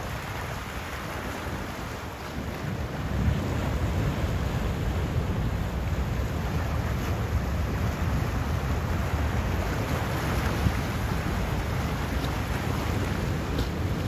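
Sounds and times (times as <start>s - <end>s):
surf washing over rocky shore: 0.0s - 14.0s
wind rumbling on microphone: 0.0s - 14.0s.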